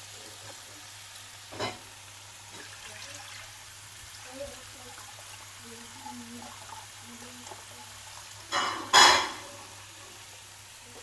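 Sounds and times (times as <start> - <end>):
liquid gushing into a pan: 0.8 - 10.3.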